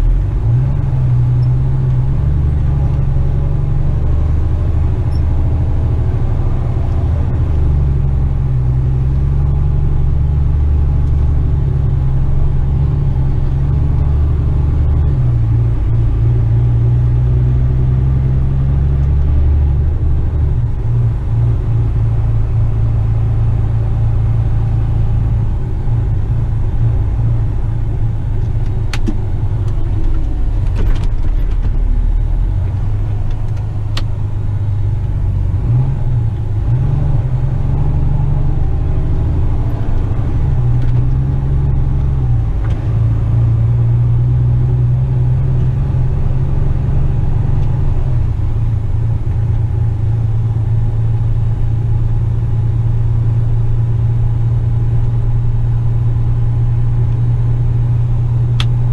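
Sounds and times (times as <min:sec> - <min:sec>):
truck diesel engine: 0:00.0 - 0:58.9.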